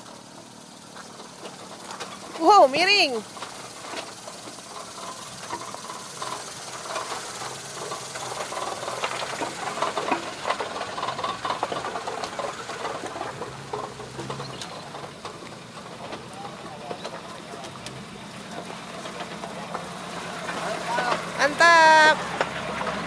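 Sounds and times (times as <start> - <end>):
vehicle body knocking and creaking: 0.0 - 21.6, 22.2 - 23.0
low engine hum: 0.0 - 23.0.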